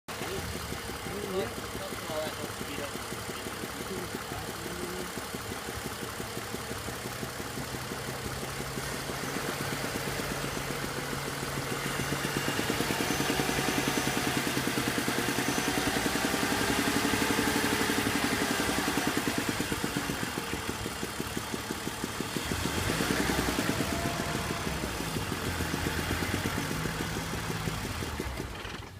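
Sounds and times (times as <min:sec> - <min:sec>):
car engine idling with misfire: 0:00.1 - 0:28.9.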